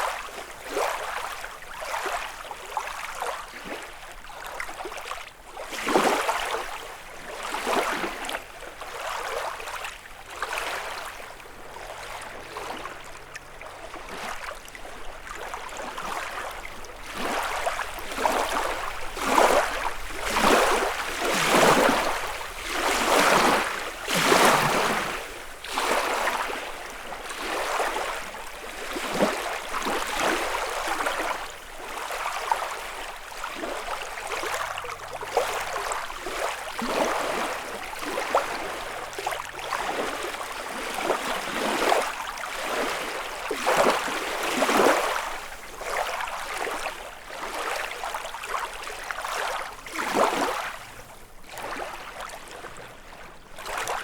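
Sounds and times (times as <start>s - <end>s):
lake waves lapping on shore: 0.0s - 54.0s.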